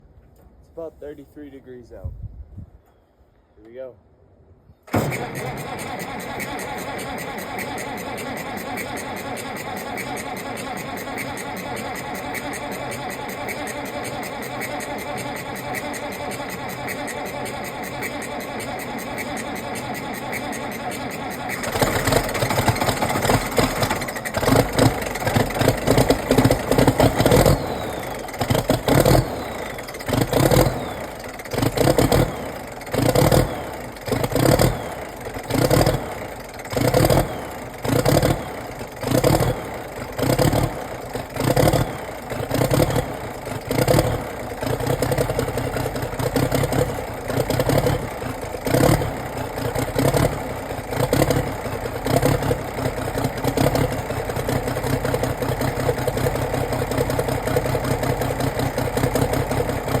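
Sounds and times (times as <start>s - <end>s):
tractor diesel engine running: 4.9s - 60.0s.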